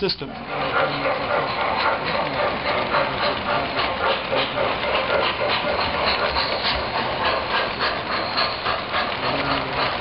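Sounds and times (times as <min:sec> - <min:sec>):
model train rumbling: 0:00.0 - 0:10.0
model train clicks: 0:00.4 - 0:10.0.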